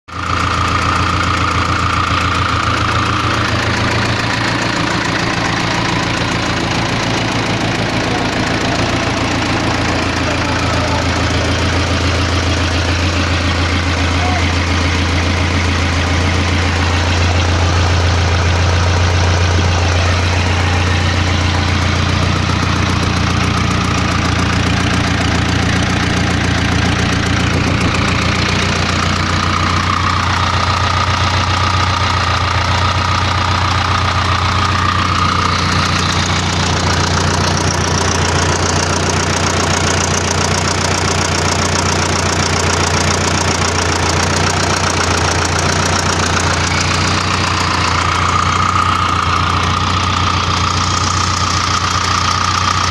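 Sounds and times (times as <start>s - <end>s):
diesel engine running steadily: 0.1s - 52.9s.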